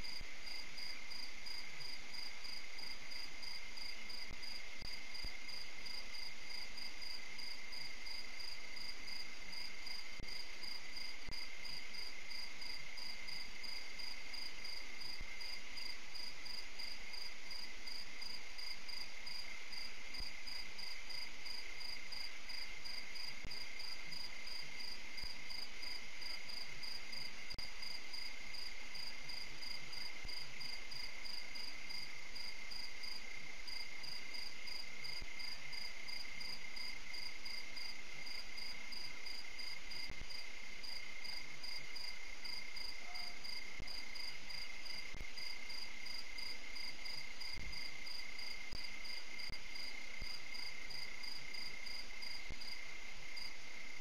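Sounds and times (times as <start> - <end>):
low unbroken insect trill: 0.0 - 54.0.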